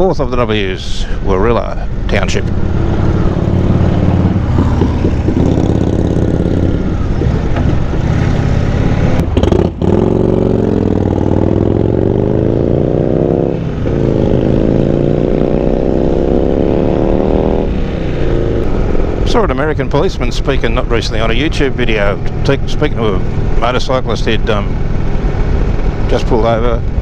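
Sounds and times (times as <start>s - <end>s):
motorcycle engine accelerating: 1.4s - 27.0s.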